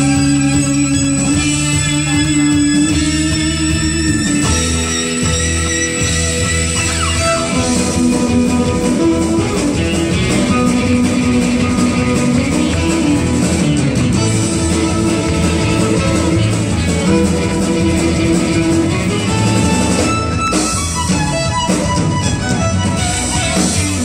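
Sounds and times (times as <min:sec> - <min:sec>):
bowed violin melody: 0:00.0 - 0:24.0
guitar: 0:00.0 - 0:24.0
steady drum beat: 0:00.0 - 0:24.0.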